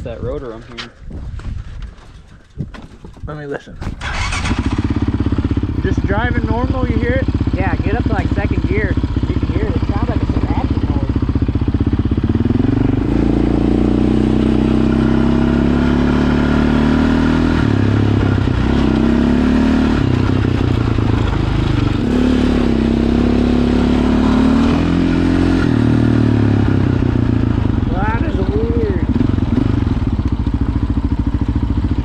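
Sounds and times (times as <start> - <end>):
quad engine revving and shifting: 4.0 - 30.4.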